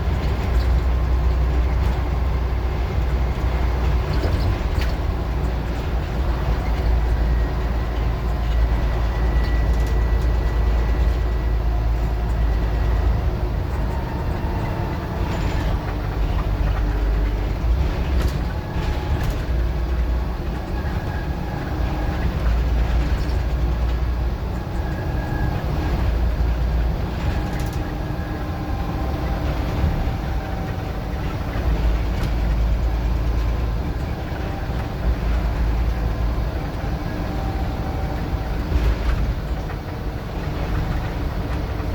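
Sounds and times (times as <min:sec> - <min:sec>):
bus diesel engine rumbling: 0:00.0 - 0:41.9.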